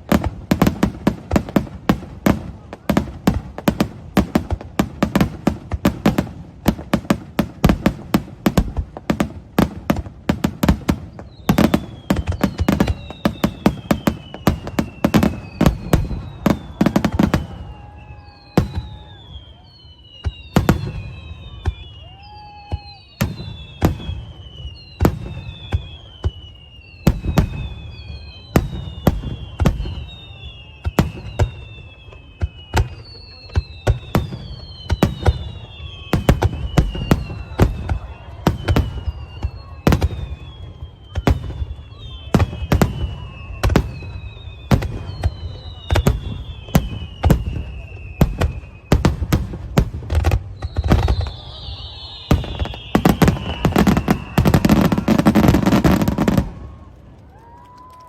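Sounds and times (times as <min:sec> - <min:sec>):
falling firework whistles: 0:00.0 - 0:58.0
firework bangs: 0:00.0 - 0:58.0.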